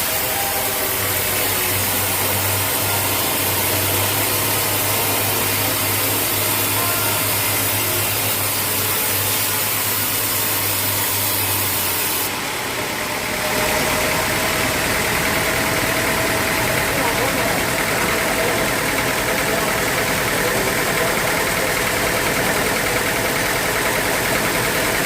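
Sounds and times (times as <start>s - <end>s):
sawmill machinery motor: 0.0s - 25.0s.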